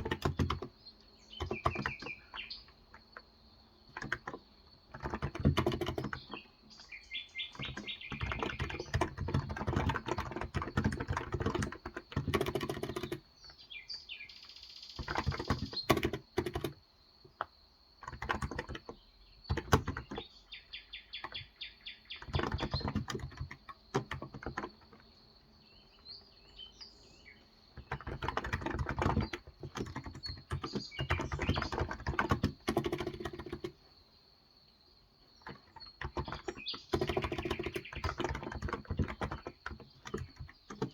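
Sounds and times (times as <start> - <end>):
keyboard typing: 0.0 - 6.6, 7.5 - 13.6, 15.0 - 20.3, 21.1 - 21.6, 22.2 - 25.1, 27.7 - 33.8, 35.4 - 40.9
birds chirping faintly: 0.0 - 40.9.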